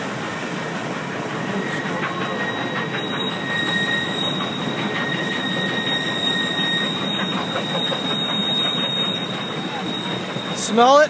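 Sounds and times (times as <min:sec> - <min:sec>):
rumble of train cars: 0:00.0 - 0:11.0
train wheels squealing: 0:01.0 - 0:11.0.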